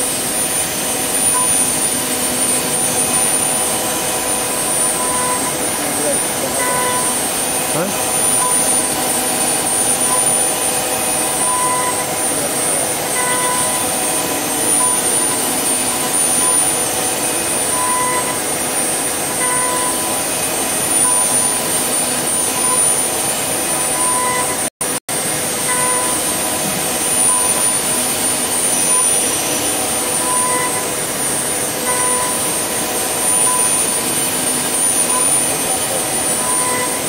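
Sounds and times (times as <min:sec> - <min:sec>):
wood lathe machine whine: 0:00.0 - 0:37.0.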